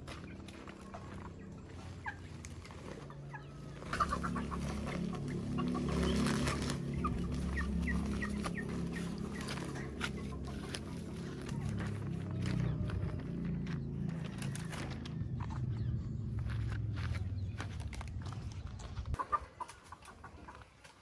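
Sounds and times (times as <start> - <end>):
low steady hum: 0.0 - 19.2
chickens clucking: 0.0 - 21.0.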